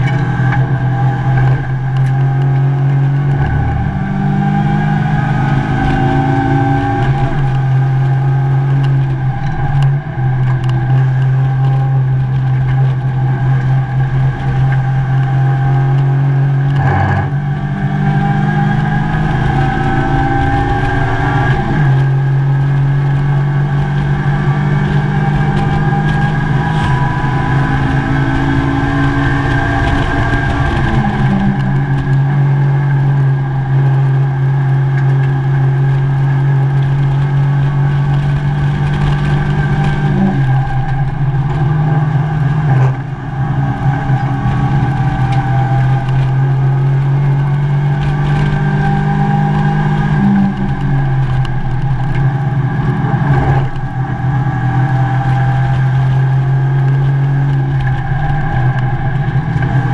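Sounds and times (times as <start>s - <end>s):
race car engine at speed: 0.0s - 59.9s.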